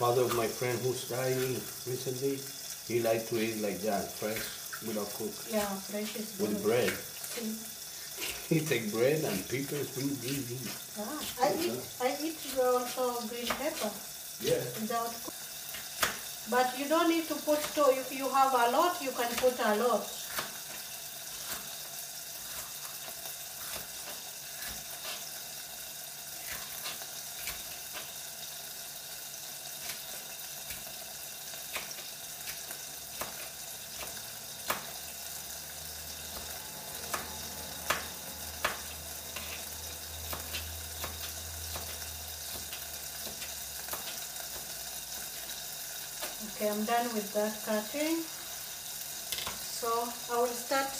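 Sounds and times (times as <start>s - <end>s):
oil sizzling in a pan: 0.0s - 50.9s.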